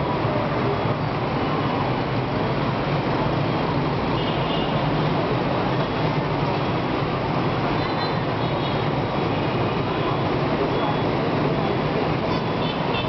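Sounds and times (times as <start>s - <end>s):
cars passing: 0.0s - 13.0s
motorbikes and scooters: 0.0s - 13.0s.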